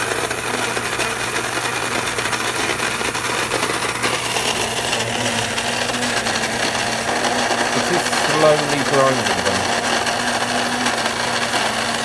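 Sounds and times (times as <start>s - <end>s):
coffee grinder grinding beans: 0.0s - 12.0s.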